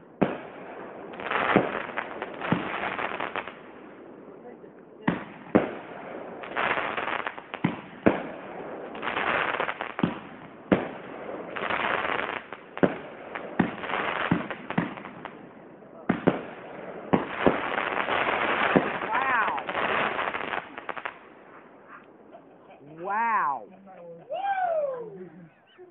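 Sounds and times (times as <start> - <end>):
firework bangs: 0.0 - 4.4, 5.0 - 21.8
firework crackling: 0.0 - 21.8.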